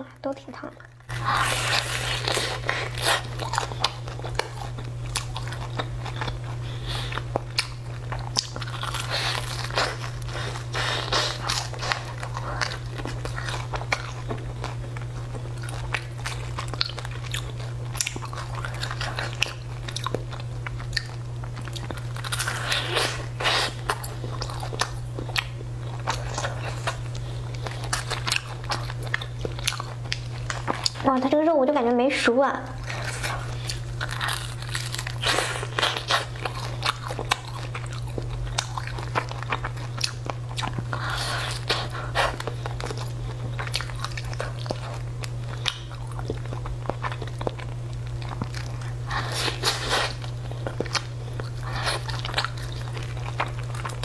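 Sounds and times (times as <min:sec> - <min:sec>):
steady low hum: 0:00.0 - 0:54.0
crunchy bites and chewing: 0:01.1 - 0:31.0, 0:32.8 - 0:54.0.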